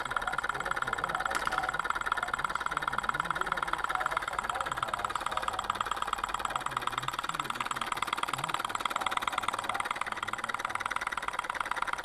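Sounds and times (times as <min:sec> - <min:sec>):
stirling engine clicking: 0:00.0 - 0:12.0.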